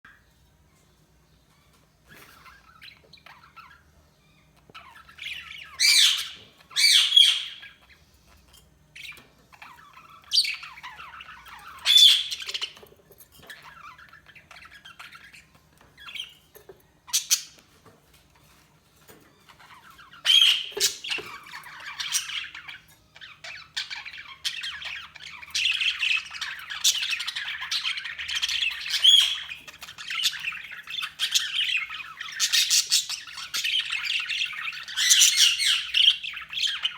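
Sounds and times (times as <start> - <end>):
budgerigars chirping and squawking: 0.1 - 36.9.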